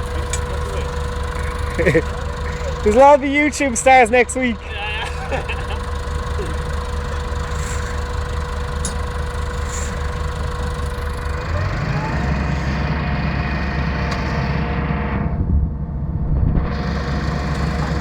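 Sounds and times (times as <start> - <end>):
diesel engine revving: 0.0 - 18.0.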